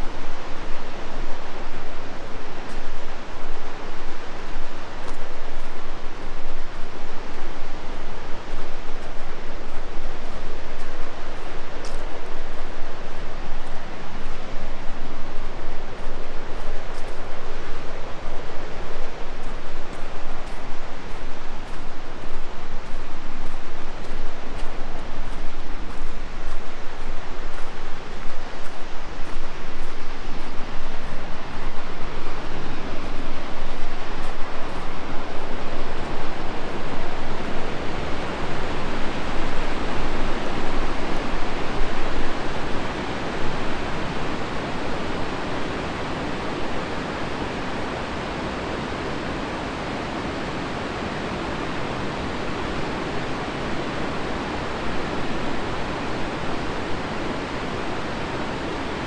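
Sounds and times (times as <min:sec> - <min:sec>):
rushing white water: 0:00.0 - 0:59.0.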